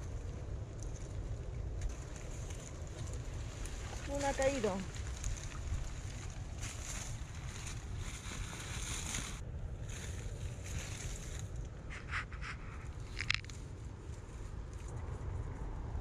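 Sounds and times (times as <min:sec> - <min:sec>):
net and reeds rustling: 0:00.0 - 0:15.0
wind buffeting microphone: 0:00.0 - 0:16.0.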